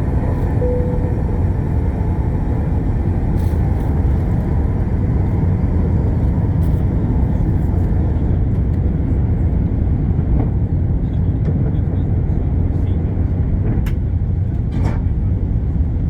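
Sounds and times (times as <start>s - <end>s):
deep rumble of jet engines: 0.0s - 16.0s.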